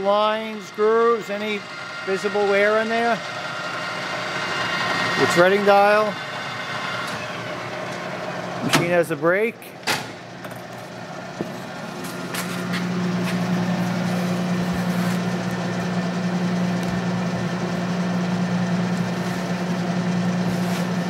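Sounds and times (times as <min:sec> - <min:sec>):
metal lathe running: 0:00.0 - 0:21.0.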